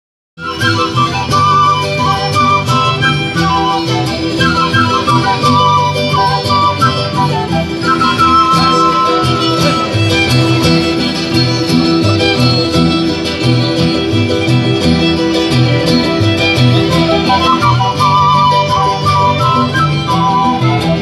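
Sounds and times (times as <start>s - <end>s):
flutes playing melody: 0.4s - 21.0s
strummed guitars: 0.4s - 21.0s
violin: 0.4s - 21.0s.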